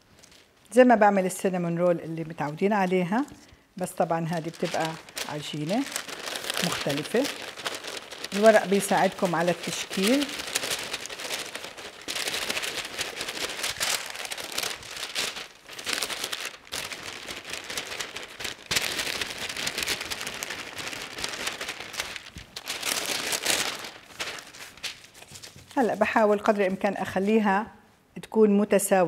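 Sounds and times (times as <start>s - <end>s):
parchment paper crinkling: 0.0s - 0.8s, 1.4s - 27.4s.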